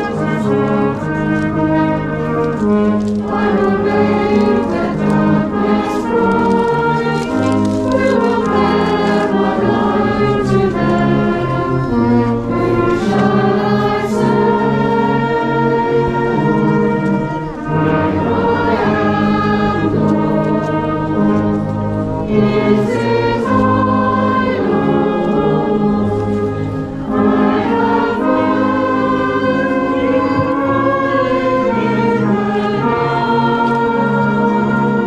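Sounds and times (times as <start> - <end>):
brass band playing: 0.0 - 35.0
congregation singing a hymn: 0.0 - 35.0.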